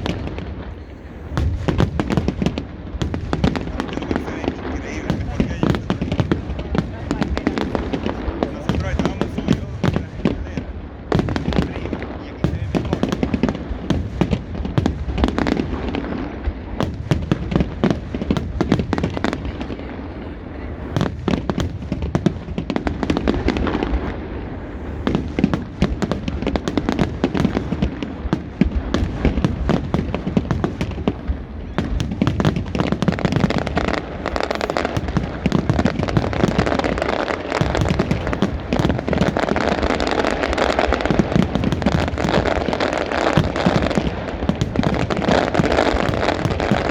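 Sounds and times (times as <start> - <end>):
fireworks bursts and crackling: 0.0 - 46.9.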